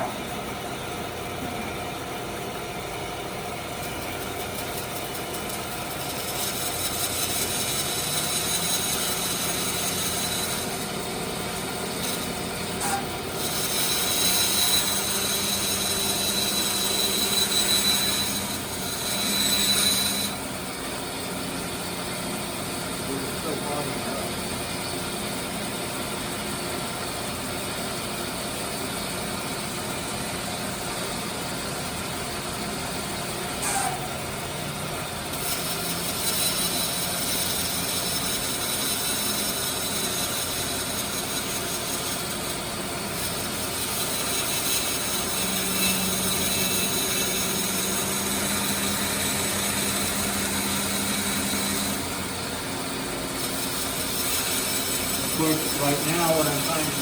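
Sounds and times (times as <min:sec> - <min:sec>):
band saw cutting wood: 0:02.4 - 0:26.5, 0:33.0 - 0:57.0.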